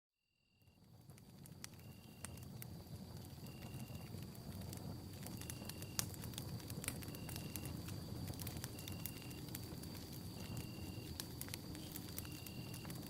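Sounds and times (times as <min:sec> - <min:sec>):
campfire crackling and popping: 0:00.7 - 0:13.0.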